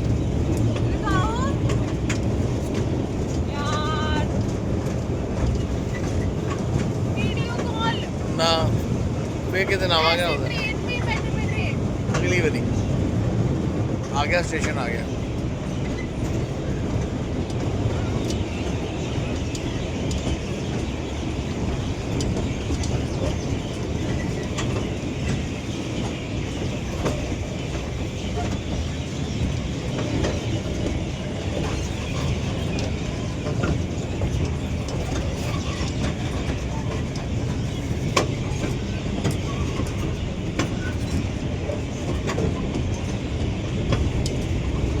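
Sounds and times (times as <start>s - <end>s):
miniature train rumbling on track: 0.0s - 45.0s.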